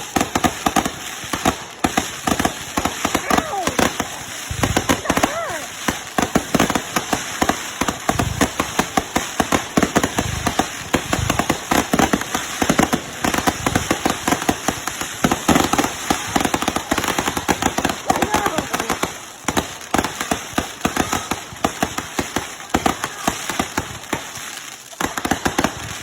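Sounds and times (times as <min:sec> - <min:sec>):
fireworks crackle: 0:00.0 - 0:26.0
fireworks popping and banging: 0:00.0 - 0:26.0.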